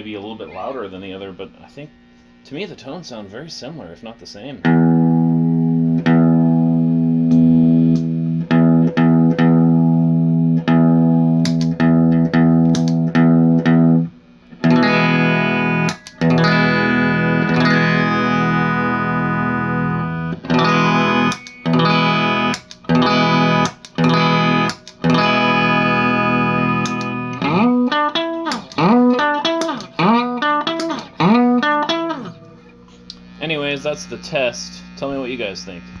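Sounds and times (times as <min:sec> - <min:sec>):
clean electric guitar chords: 0:04.6 - 0:36.0.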